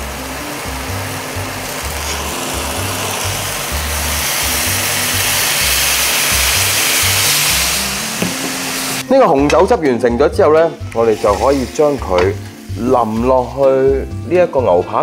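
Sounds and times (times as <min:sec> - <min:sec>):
sauce sizzling and bubbling in pan: 0:00.0 - 0:09.0, 0:11.0 - 0:14.1
background music with bass line: 0:00.0 - 0:15.0.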